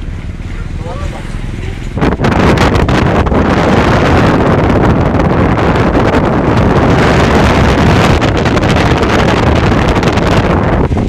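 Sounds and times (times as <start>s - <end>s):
bus engine and road rumble: 0.0s - 11.0s
wind buffeting microphone: 0.0s - 11.0s.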